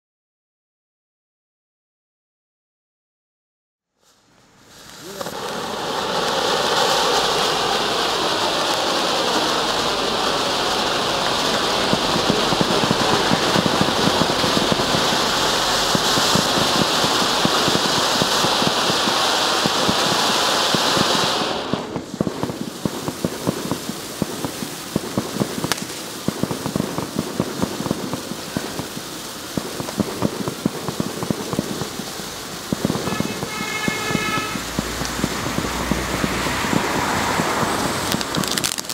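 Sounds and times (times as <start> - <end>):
firework dense crackling: 4.0 - 38.9
firework fountain hissing sparks: 4.0 - 38.9.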